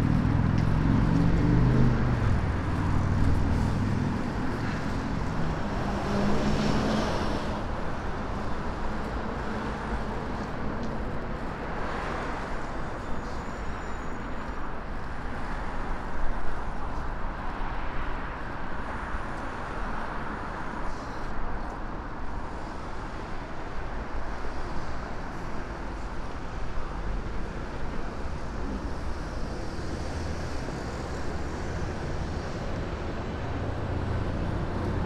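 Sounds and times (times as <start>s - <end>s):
city traffic noise: 0.0s - 35.0s.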